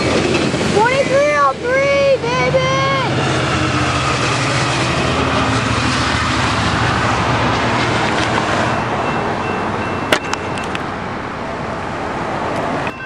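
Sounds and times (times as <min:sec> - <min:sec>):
diesel locomotive drone: 0:00.0 - 0:13.0
train wheels rushing on rails: 0:00.0 - 0:13.0.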